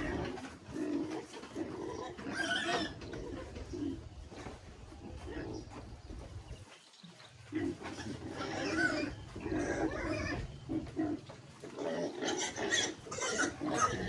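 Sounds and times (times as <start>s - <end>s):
piglets grunting and calling: 0.0s - 6.3s, 7.4s - 14.0s.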